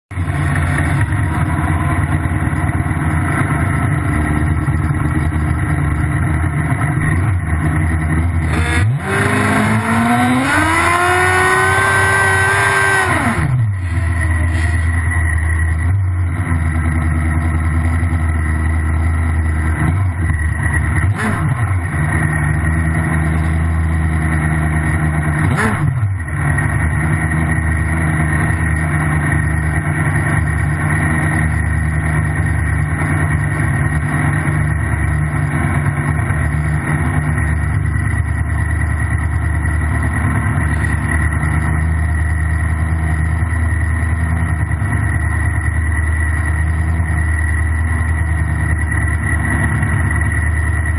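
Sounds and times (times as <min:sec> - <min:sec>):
motorcycle engine idling: 0:00.1 - 0:50.9.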